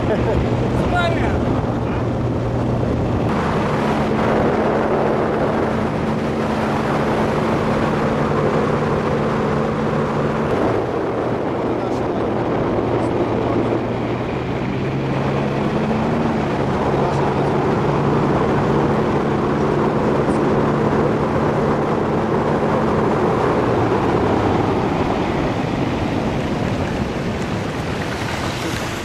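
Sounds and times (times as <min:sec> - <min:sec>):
outboard motor running: 0:00.0 - 0:29.0
wind and water rushing: 0:00.0 - 0:29.0.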